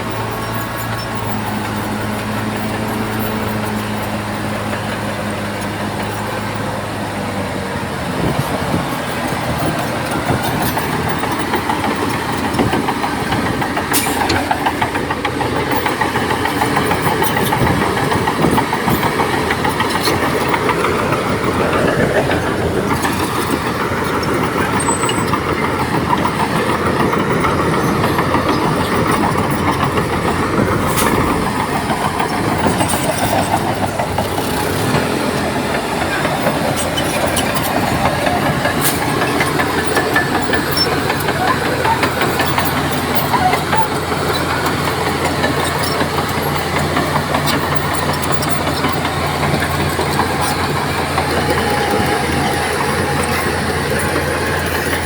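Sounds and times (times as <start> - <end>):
bulldozer diesel engine running: 0.0 - 55.0
crawler tracks rattling: 0.0 - 55.0.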